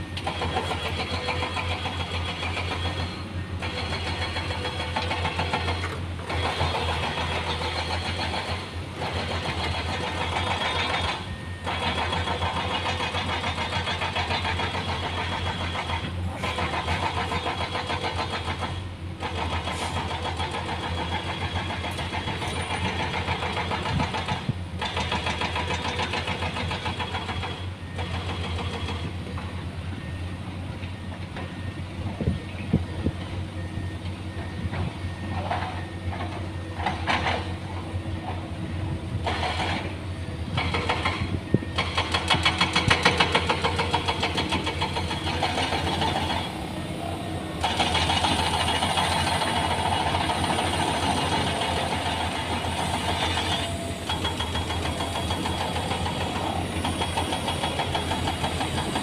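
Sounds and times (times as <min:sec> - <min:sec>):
heavy machinery diesel engine drone: 0:00.0 - 0:59.0.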